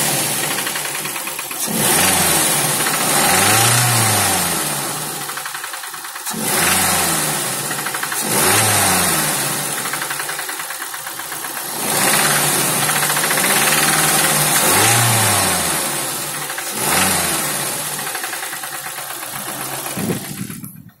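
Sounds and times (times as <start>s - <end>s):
car engine revving: 0.0s - 21.0s
engine knocking: 0.0s - 21.0s.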